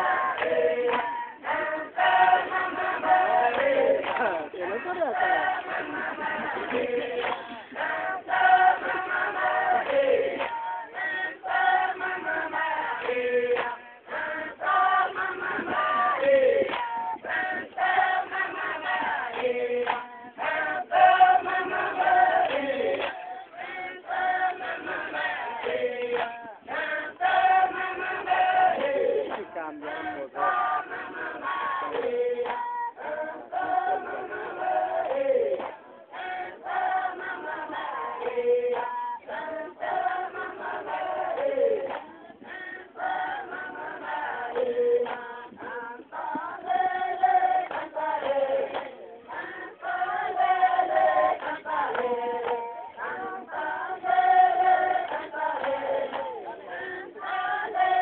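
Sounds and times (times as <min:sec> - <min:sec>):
congregation singing in chorus: 0:00.0 - 0:58.0.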